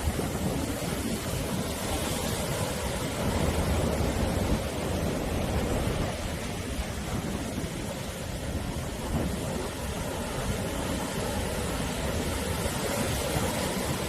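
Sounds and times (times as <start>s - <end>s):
sea surf washing onto shore: 0.0s - 14.0s.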